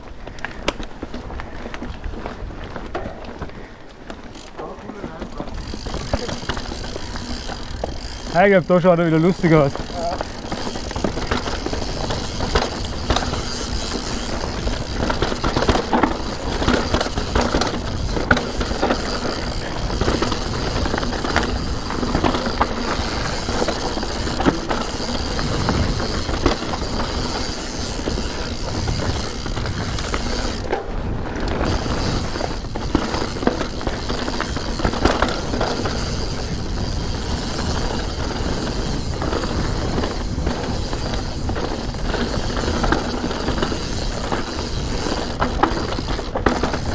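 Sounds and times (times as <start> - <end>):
bike rattling over bumps: 0.0 - 46.9
tyre noise on dirt: 0.0 - 46.9.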